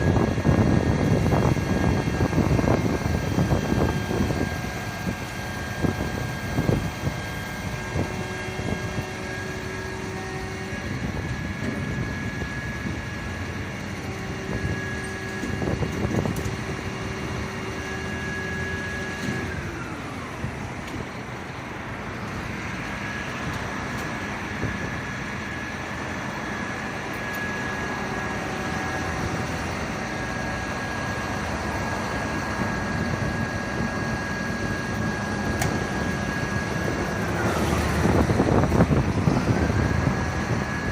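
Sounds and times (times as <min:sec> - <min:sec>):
fire truck engine: 0:00.0 - 0:40.9
mechanical whine: 0:00.0 - 0:40.9.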